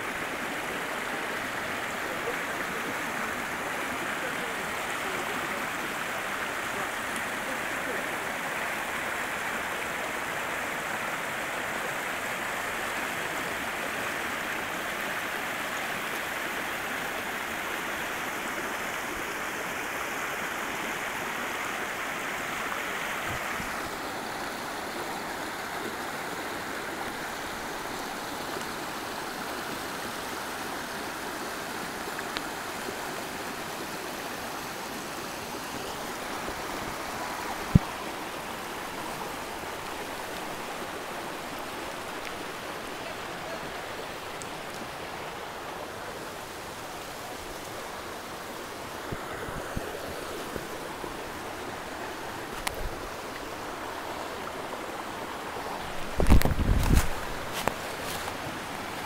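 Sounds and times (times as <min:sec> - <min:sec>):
creek cascading over boulders: 0:00.0 - 0:59.0.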